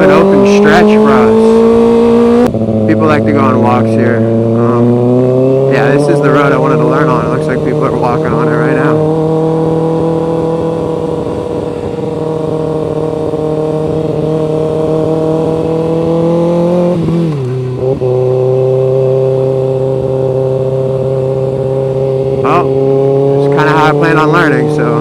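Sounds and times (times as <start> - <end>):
motorcycle engine revving while riding: 0.0 - 25.0.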